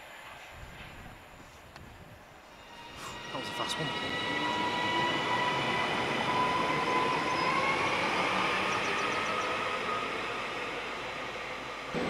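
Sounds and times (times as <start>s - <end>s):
train wheel and running noise: 0.0s - 12.0s.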